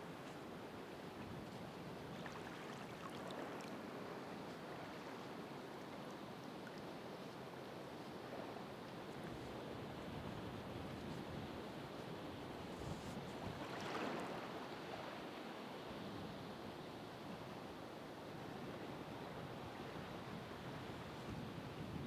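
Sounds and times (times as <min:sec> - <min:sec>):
ocean waves washing on shore: 0:00.0 - 0:22.0.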